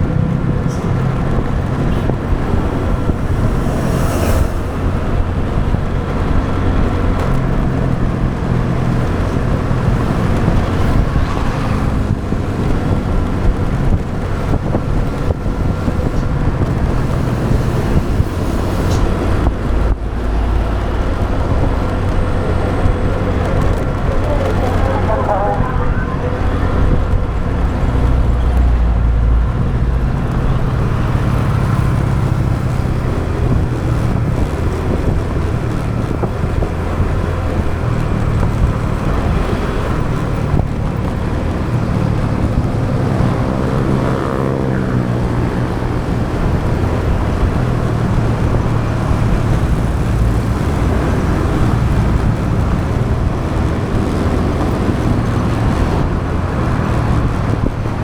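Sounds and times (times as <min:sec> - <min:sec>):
road noise: 0:00.0 - 0:58.0
surrounding traffic: 0:00.0 - 0:58.0.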